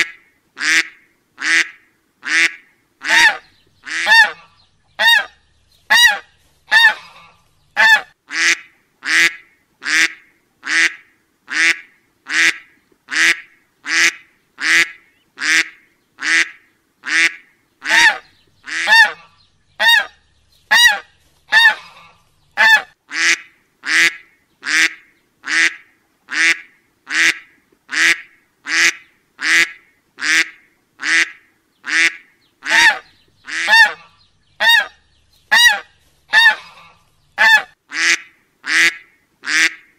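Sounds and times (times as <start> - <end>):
duck quacking: 0.0 - 39.9.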